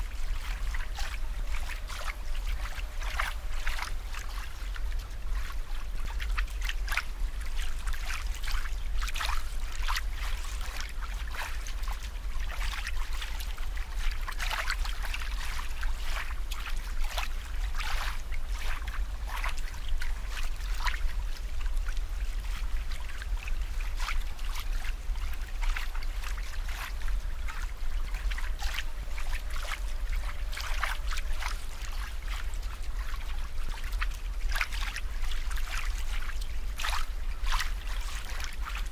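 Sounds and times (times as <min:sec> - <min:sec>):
steady low hum: 0:00.0 - 0:38.9
water trickling and bubbling: 0:00.0 - 0:38.9.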